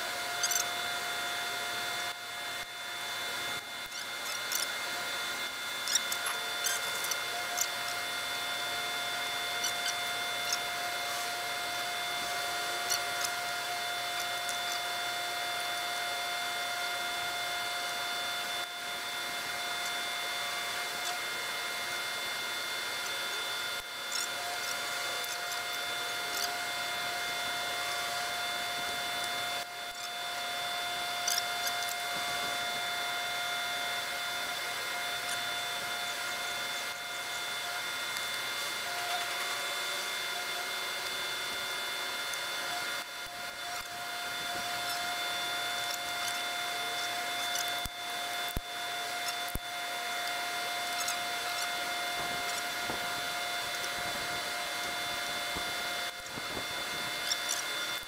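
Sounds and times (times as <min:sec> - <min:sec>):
washing machine motor whining: 0:00.0 - 0:58.0.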